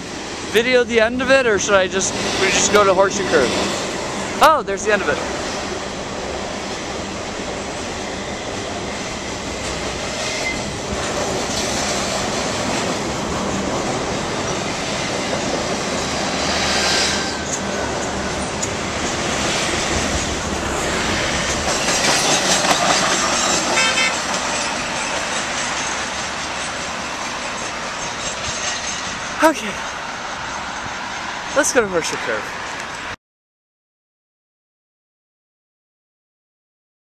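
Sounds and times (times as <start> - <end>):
freight cars rumbling on rails: 0.0 - 33.1.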